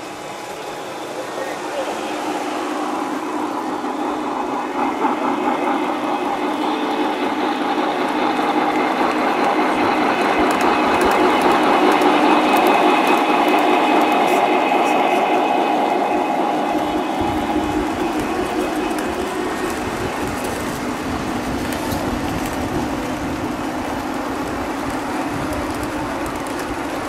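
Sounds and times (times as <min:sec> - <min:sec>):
model train rumbling whine: 0:00.0 - 0:27.0.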